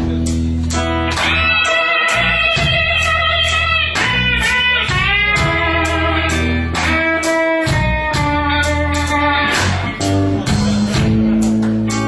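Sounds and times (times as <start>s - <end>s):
electric blues band playing: 0.0s - 12.0s
steady cymbal beat: 0.0s - 12.0s.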